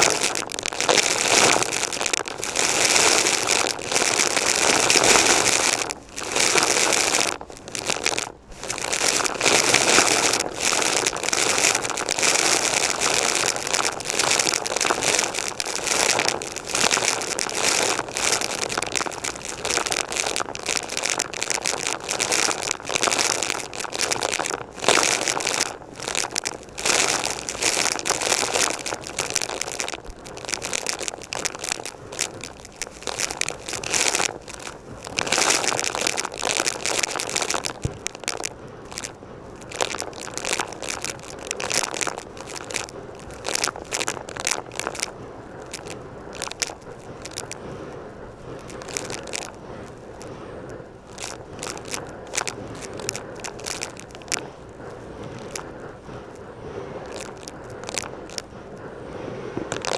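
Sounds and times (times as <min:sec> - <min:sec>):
debris crackling in vacuum: 0:00.0 - 0:47.7, 0:48.5 - 0:50.4, 0:51.0 - 0:58.8, 0:59.6 - 0:59.9.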